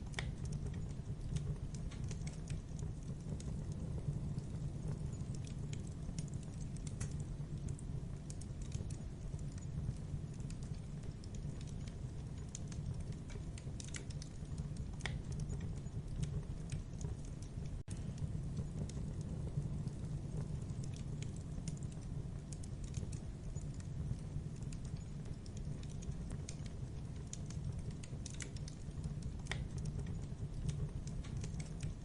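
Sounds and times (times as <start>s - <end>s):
fire pops and snaps: 0.0s - 32.0s
wood fire crackling: 0.0s - 32.0s.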